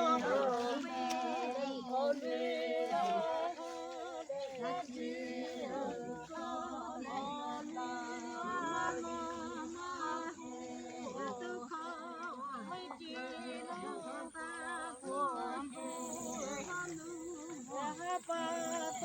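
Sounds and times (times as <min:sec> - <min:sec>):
unaccompanied voices chanting: 0:00.0 - 0:19.0.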